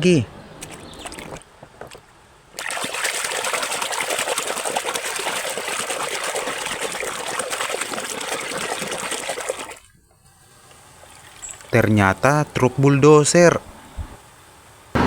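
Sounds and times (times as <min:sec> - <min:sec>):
water running and splashing: 0:00.6 - 0:15.0.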